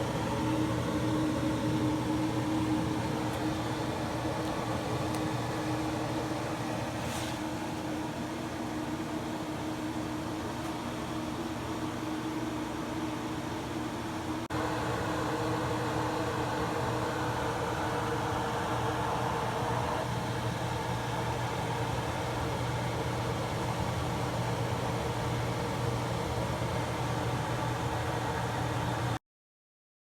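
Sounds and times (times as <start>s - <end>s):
steady mechanical hum: 0.0s - 29.2s.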